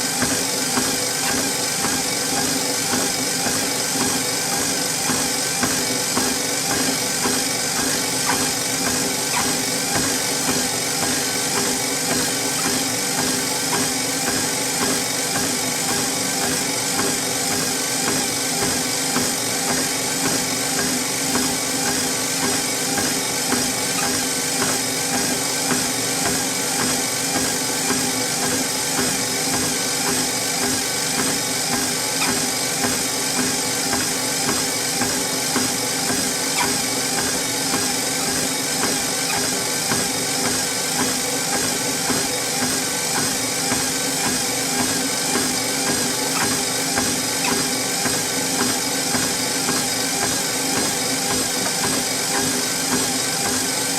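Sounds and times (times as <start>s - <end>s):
treadmill motor hum and belt whir: 0.0s - 53.9s
footfalls on treadmill belt: 0.1s - 53.9s.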